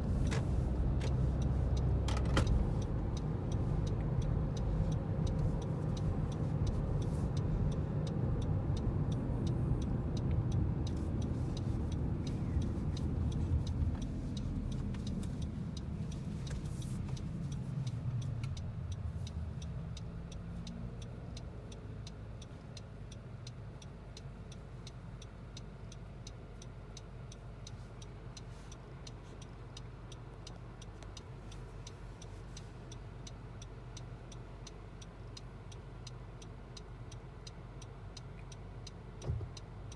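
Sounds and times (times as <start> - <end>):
car road noise: 0.0 - 25.9, 26.5 - 39.9
light regular ticking: 0.0 - 39.9.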